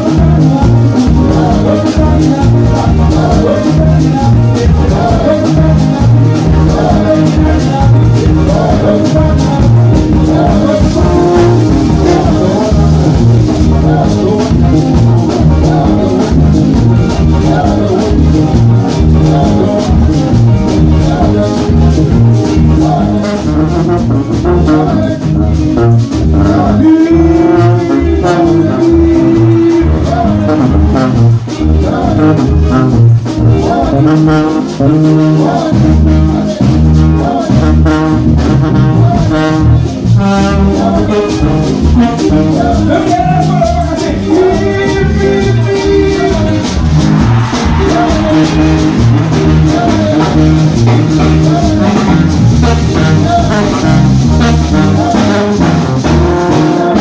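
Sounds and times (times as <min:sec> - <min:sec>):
brass lines: 0:00.0 - 0:57.0
live band playing upbeat music: 0:00.0 - 0:57.0.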